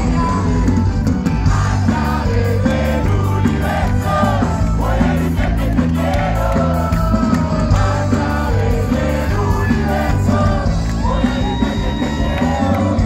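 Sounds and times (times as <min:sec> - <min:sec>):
live rock band playing: 0:00.0 - 0:13.0
lead vocal singing: 0:01.4 - 0:13.0.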